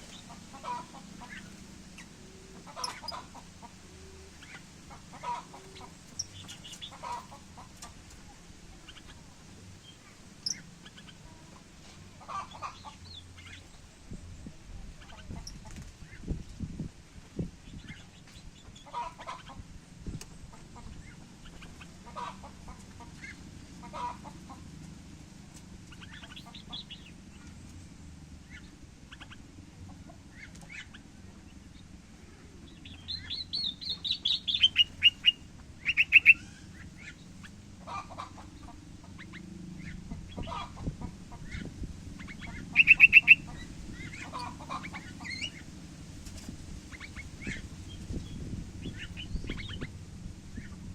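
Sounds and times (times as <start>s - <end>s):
small birds chirping: 0.0s - 16.4s, 17.6s - 19.6s, 25.5s - 50.8s.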